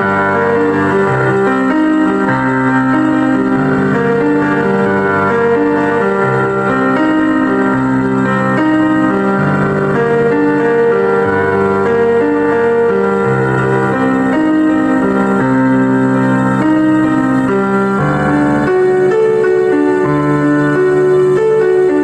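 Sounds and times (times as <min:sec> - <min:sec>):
sustained keyboard chords: 0:00.0 - 0:22.0.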